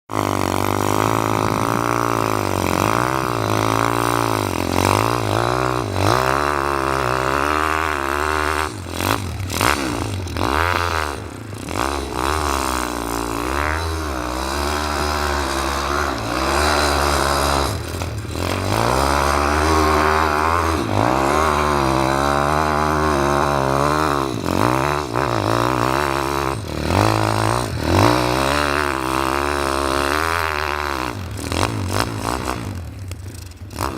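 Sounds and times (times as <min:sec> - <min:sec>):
motorbike engine revving: 0:00.1 - 0:33.9.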